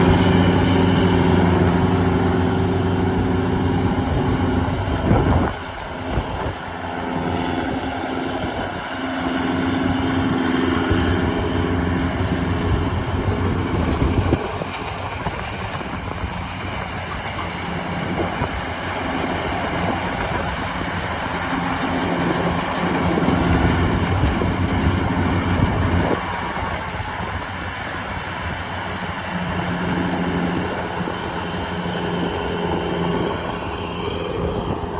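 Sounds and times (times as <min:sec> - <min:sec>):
combine harvester engine hum: 0:00.0 - 0:34.9
rushing mechanical noise: 0:00.0 - 0:34.9.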